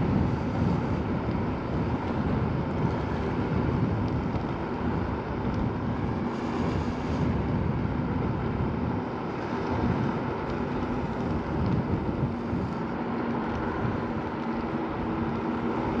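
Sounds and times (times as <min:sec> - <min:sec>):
faint electric scooter hum: 0:00.0 - 0:16.0
wind on microphone: 0:00.0 - 0:16.0.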